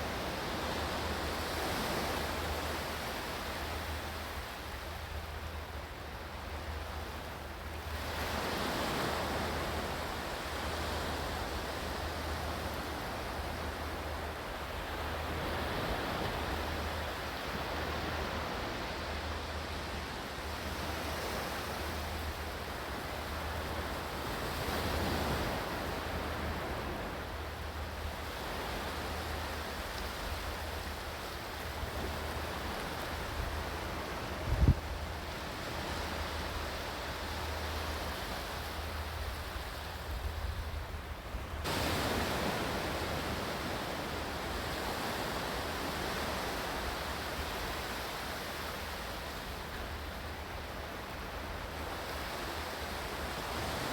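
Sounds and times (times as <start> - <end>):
ocean surf: 6.9 - 53.9.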